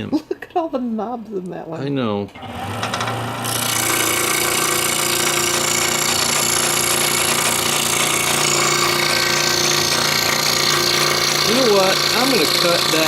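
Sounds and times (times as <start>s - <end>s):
scroll saw cutting wood: 2.4s - 13.0s.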